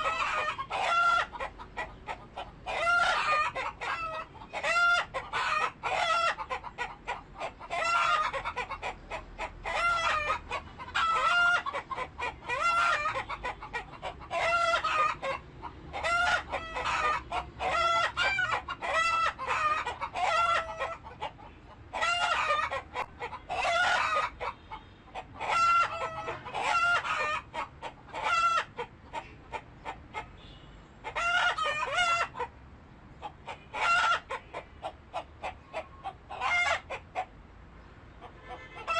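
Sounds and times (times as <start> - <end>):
chickens clucking and cackling: 0.0 - 38.9.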